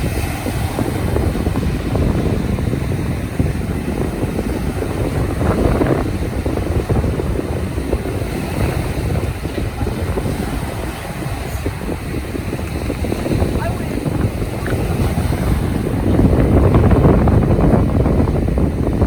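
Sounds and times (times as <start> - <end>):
surf: 0.0 - 19.0
wind buffeting microphone: 0.0 - 19.0.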